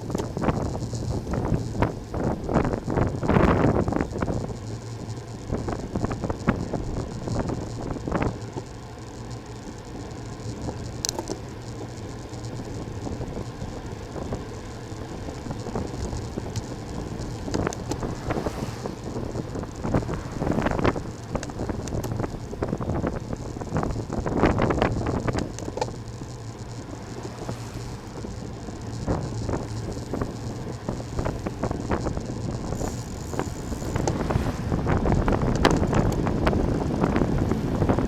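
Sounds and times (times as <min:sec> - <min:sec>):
wind on microphone: 0:00.0 - 0:08.5, 0:12.5 - 0:38.0
road rumble: 0:00.0 - 0:38.0.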